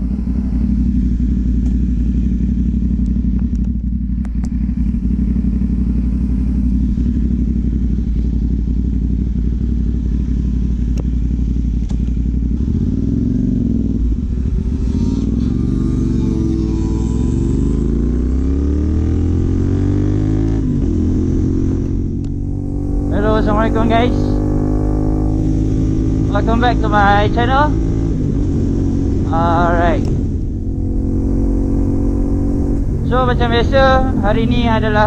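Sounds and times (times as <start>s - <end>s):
motorcycle engine idling: 0.0s - 18.4s, 19.4s - 35.0s.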